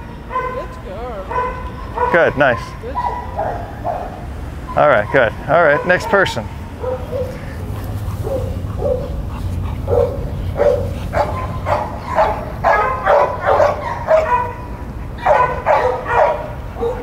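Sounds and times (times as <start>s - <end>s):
dog whining: 1.3s - 17.0s.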